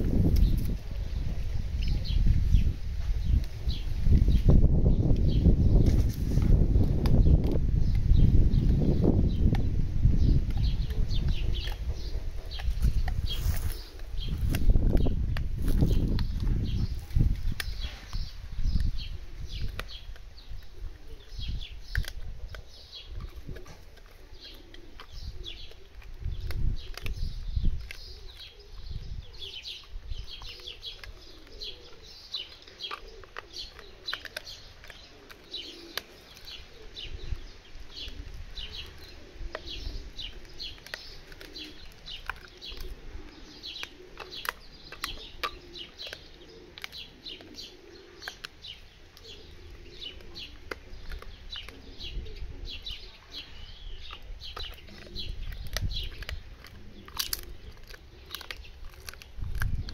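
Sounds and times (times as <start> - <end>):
small birds chirping: 0.0 - 59.9
dog gnawing a chew: 5.0 - 53.4, 54.0 - 59.9.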